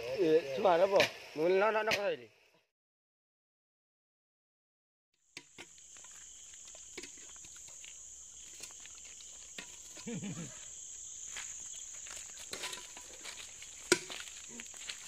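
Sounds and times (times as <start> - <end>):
night insects chirring: 0.0 - 2.6, 5.2 - 15.0.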